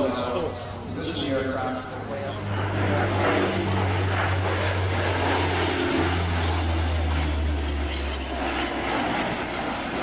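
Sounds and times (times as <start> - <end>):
propeller drone: 0.0 - 10.0
rushing aircraft engine noise: 0.0 - 10.0.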